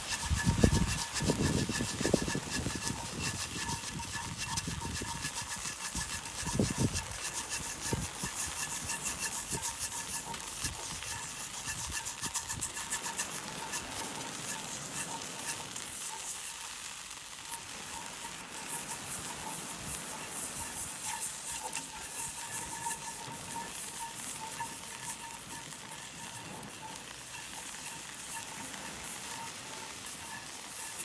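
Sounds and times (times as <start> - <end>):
boiling water crackling and sizzling: 0.0 - 31.0.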